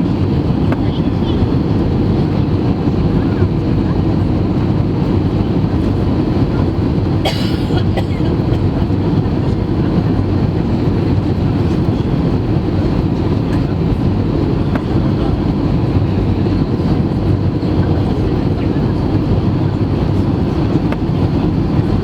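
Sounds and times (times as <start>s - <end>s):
aircraft low rumble: 0.0s - 22.0s.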